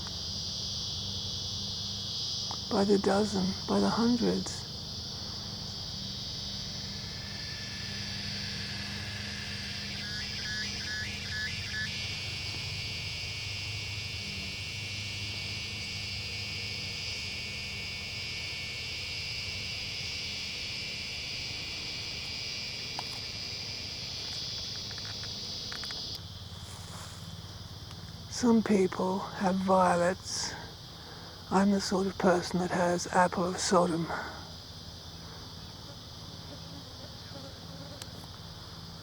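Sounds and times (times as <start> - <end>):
cicadas shrilling: 0.0 - 39.0.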